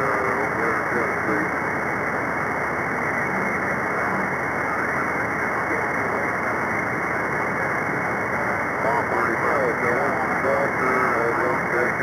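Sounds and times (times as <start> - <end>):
weak buried radio voices: 0.0 - 2.1, 3.0 - 12.0
radio static hiss: 0.0 - 12.0.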